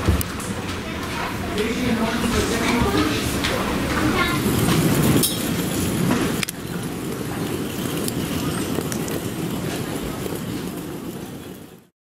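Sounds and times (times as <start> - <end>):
suitcase wheels rolling on tiles: 0.0 - 11.9.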